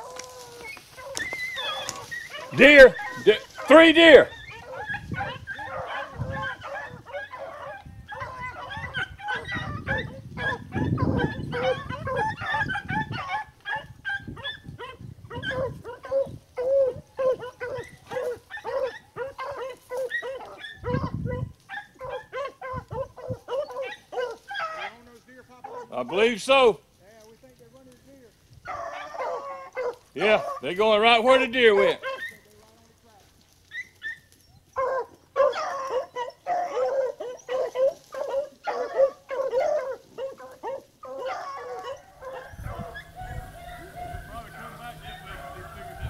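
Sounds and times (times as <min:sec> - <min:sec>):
dogs baying and yelping: 0:00.0 - 0:26.6, 0:28.6 - 0:32.6, 0:33.5 - 0:46.0.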